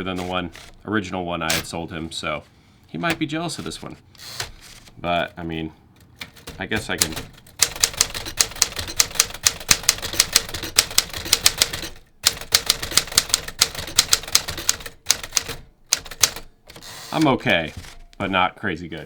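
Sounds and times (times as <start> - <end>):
manual typewriter typing: 0.0 - 2.0, 3.0 - 18.4.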